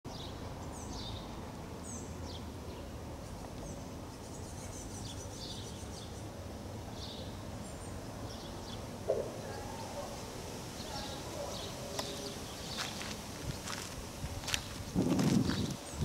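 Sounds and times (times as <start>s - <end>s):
sparrows chirping: 0.1s - 16.0s.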